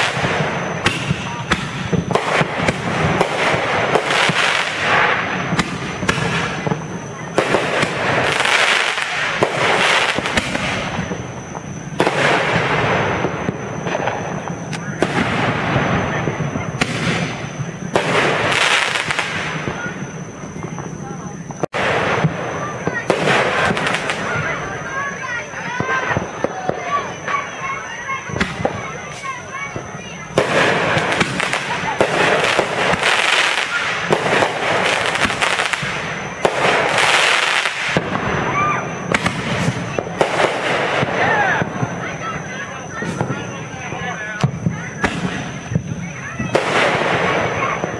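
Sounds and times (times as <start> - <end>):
firework bangs: 0.0 - 47.9
firework crackling: 0.0 - 47.9.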